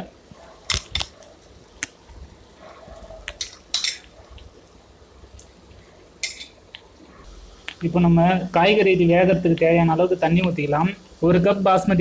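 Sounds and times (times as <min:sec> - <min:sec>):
soft wet mixing sounds: 0:00.0 - 0:12.0.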